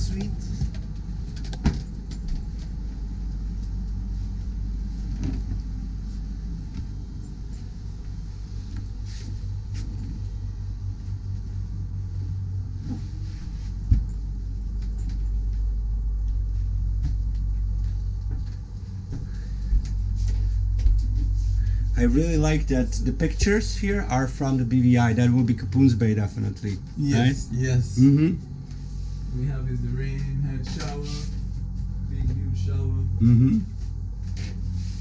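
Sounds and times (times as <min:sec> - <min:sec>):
low machinery rumble: 0:00.0 - 0:35.0.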